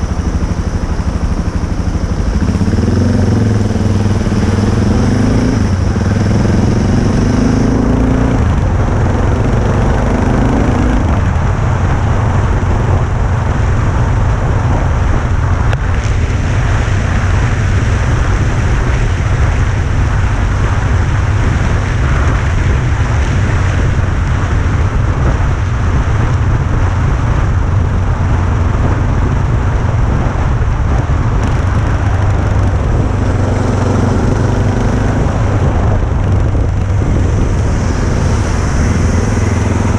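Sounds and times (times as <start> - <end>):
motorcycle engine rumble: 0.0 - 39.9
rushing noise: 0.0 - 39.9.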